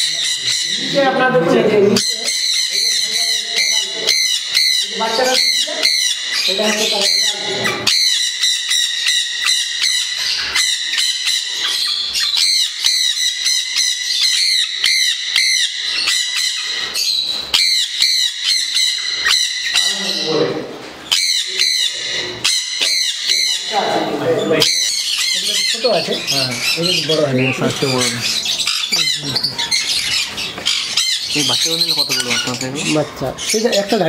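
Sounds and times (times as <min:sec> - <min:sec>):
parrots squawking: 0:00.0 - 0:34.0.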